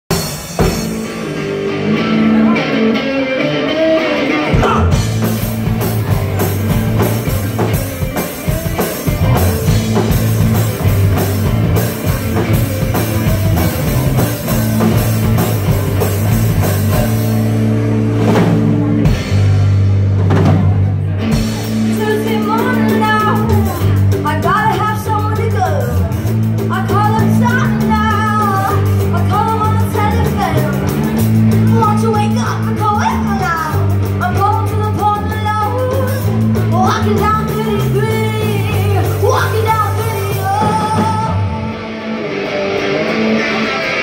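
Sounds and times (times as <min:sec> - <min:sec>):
bass guitar: 0:00.0 - 0:44.0
drum kit: 0:00.0 - 0:44.0
electric guitars: 0:00.1 - 0:44.0.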